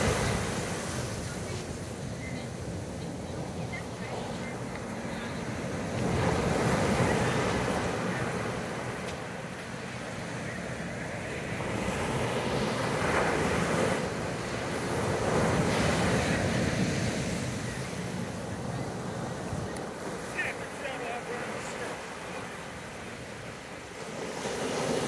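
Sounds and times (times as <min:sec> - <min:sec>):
ocean surf breaking on beach: 0:00.0 - 0:25.0.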